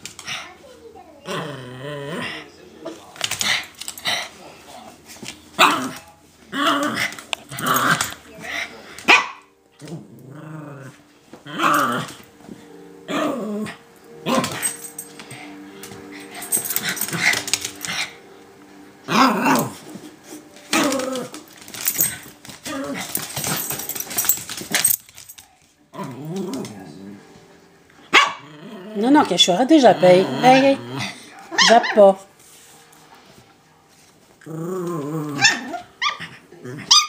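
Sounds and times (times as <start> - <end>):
dogs barking and growling: 1.2 - 32.5, 33.9 - 37.0.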